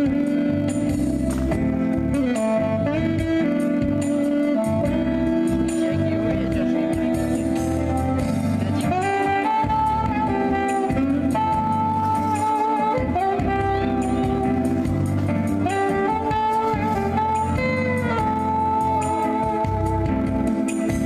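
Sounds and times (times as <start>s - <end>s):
alto saxophone melody: 0.0s - 21.0s
lower saxophone accompaniment: 0.0s - 21.0s.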